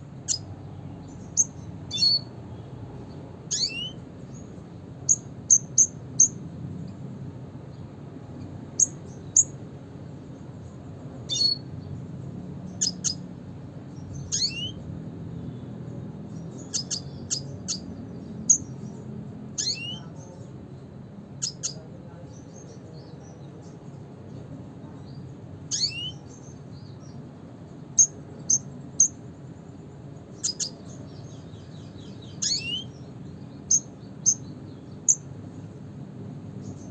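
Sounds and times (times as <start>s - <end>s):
bird chirping: 0.1s - 7.0s, 7.7s - 20.6s, 21.3s - 35.7s, 36.5s - 36.9s.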